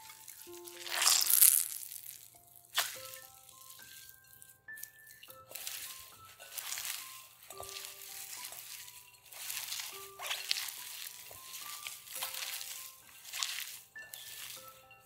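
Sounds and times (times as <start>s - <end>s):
hands rustling vegetables in bowl: 0.0s - 15.0s
soft background music: 0.0s - 15.0s.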